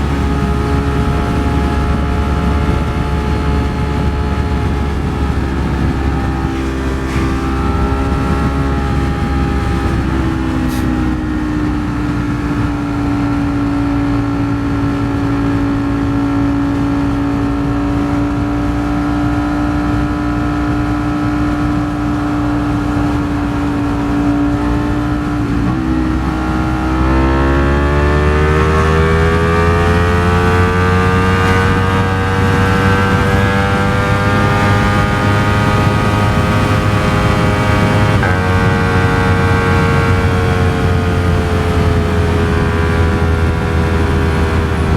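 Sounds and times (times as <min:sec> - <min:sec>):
motorcycle engine running: 0:00.0 - 0:44.9
wind rush: 0:00.0 - 0:44.9.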